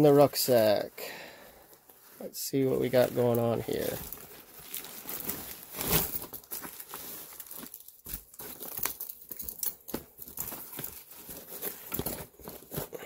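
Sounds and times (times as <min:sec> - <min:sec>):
rucksack and plastic wrapping rustling: 0:00.0 - 0:13.0.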